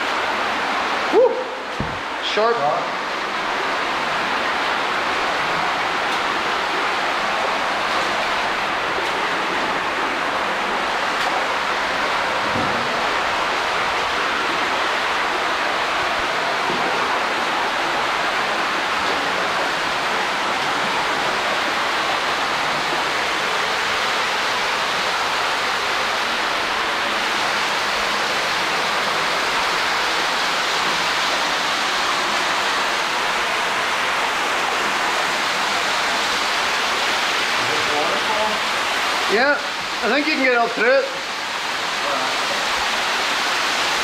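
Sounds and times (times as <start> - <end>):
stream water rushing over rocks: 0.0 - 44.0.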